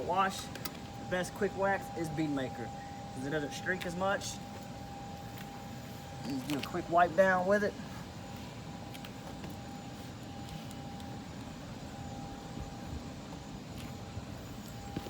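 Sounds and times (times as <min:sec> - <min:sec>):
distant jet engine rumble: 0:00.0 - 0:15.0
thin steady whine: 0:00.0 - 0:15.0.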